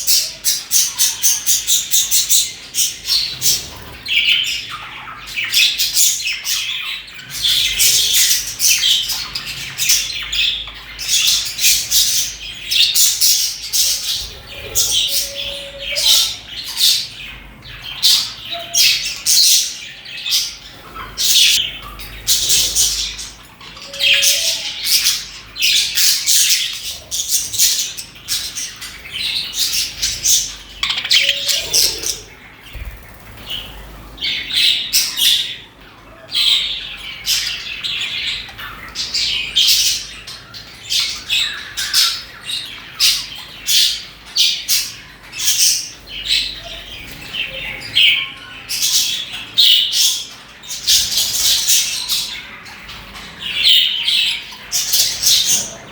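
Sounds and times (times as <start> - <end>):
budgerigars chirping and squawking: 0.0 - 55.9.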